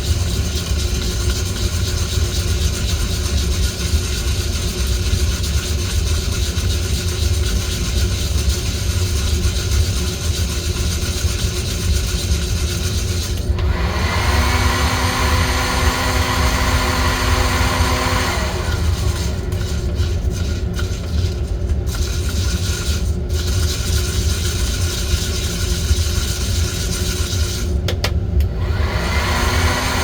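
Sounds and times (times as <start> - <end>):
coffee roaster running: 0.0 - 30.0.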